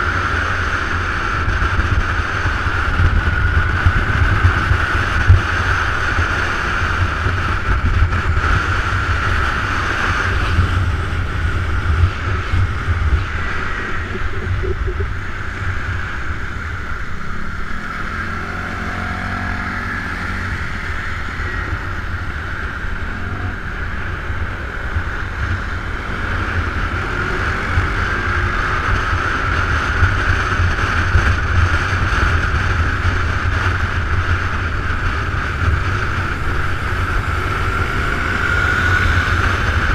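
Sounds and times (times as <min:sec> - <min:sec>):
motorbike engine running: 0:00.0 - 0:39.9
wind rushing over microphone: 0:00.0 - 0:39.9.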